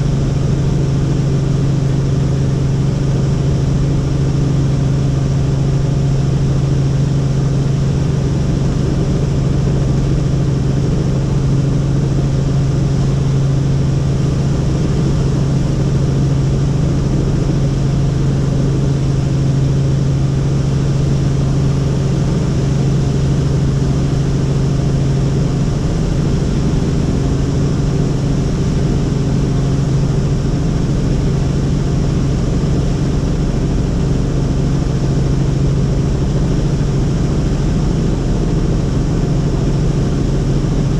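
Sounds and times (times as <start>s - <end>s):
helicopter turbine and rotors: 0.0s - 40.9s.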